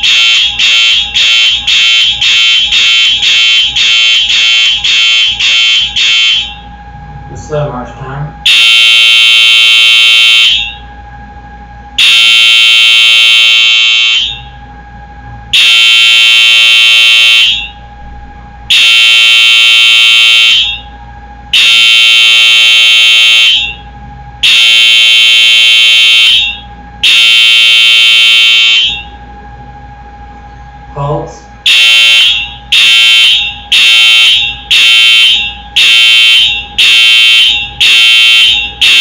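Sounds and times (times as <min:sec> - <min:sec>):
fire alarm horn blasts: 0:00.0 - 0:07.6, 0:08.4 - 0:11.0, 0:11.8 - 0:14.7, 0:15.4 - 0:18.1, 0:18.7 - 0:29.4, 0:30.9 - 0:39.0.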